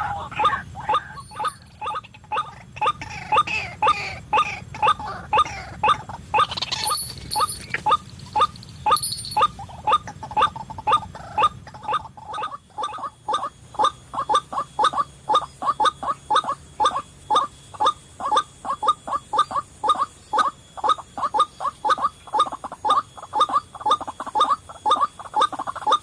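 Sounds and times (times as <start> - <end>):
waterhen croaking calls: 0.0 - 26.0.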